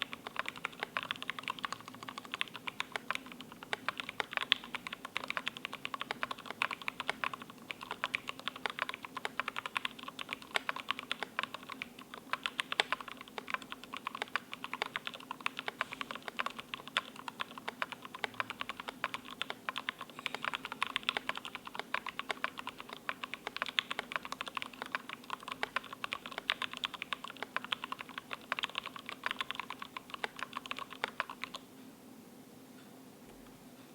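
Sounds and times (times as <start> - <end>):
fast typing on mechanical keyboard: 0.0 - 31.6.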